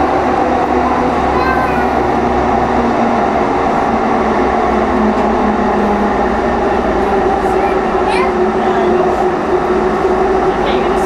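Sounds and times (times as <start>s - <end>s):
rail car rumble: 0.0s - 11.0s.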